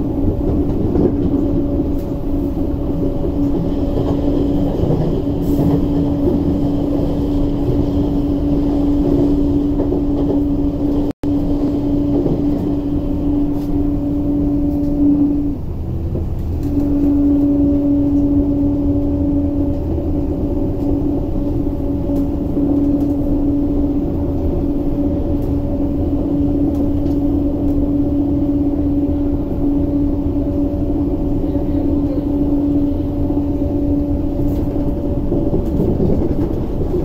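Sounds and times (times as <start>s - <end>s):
train pitched whine: 0.0s - 37.0s
wheels rumbling on rail: 0.0s - 37.0s.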